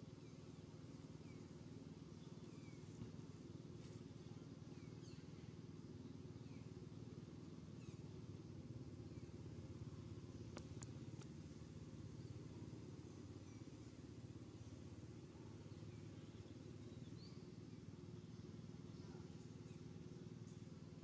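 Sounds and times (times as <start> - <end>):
faint bird chirps: 0.0 - 21.0
steady low hum: 0.0 - 21.0.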